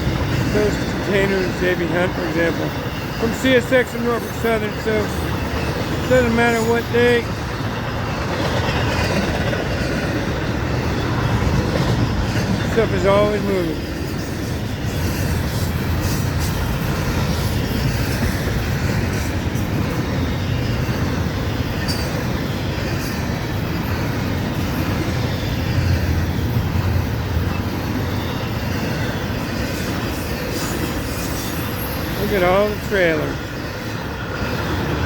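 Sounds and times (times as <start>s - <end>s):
freight train wheels rumbling: 0.0s - 35.0s
train wheels clacking: 0.0s - 35.0s.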